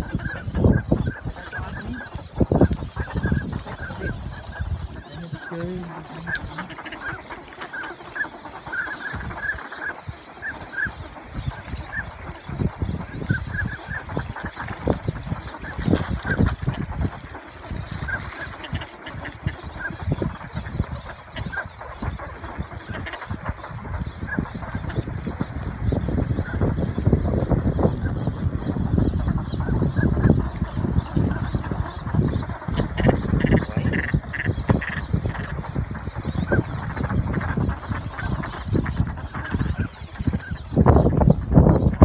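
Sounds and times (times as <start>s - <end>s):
ducks calling: 0.0s - 42.0s.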